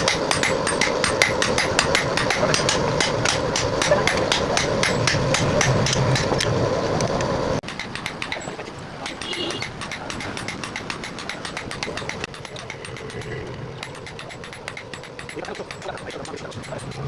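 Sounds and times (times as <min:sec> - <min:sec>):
hammer blows on steel anvil: 0:00.0 - 0:06.4, 0:07.6 - 0:17.0.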